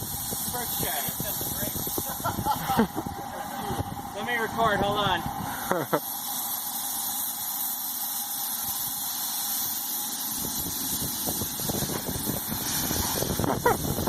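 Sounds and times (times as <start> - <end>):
locomotive exhaust chuffs: 0.0 - 14.0
steam locomotive hissing: 0.0 - 14.0.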